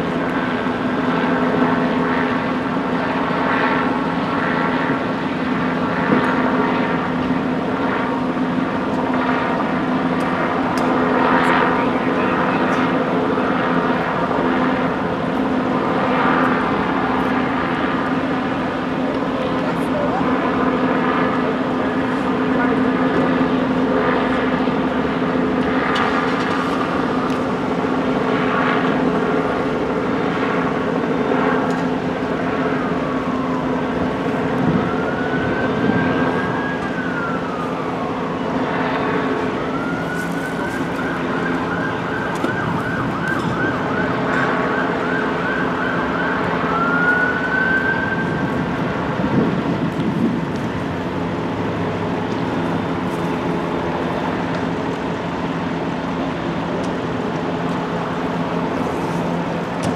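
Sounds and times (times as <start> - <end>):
emergency vehicle siren: 0.0 - 59.9
road traffic: 0.0 - 59.9.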